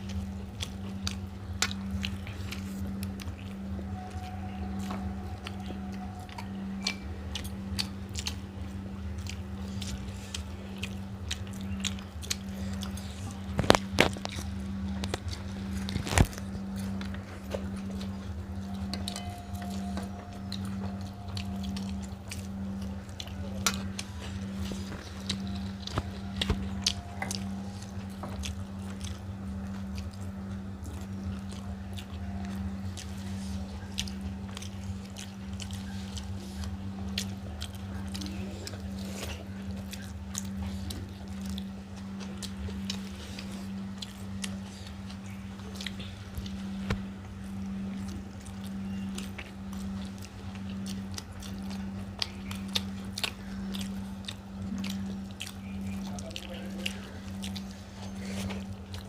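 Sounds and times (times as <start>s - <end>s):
chewing and mouth sounds: 0.0s - 59.0s
low hum: 0.0s - 59.0s.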